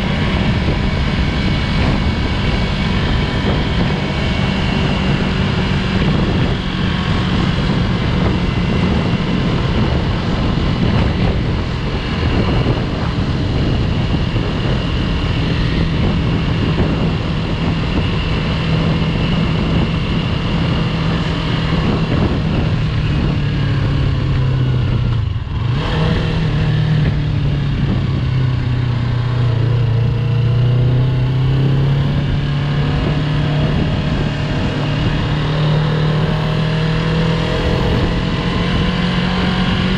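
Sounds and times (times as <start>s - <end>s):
constant rush of noise: 0.0s - 39.9s
motorcycle engine running: 0.0s - 39.9s.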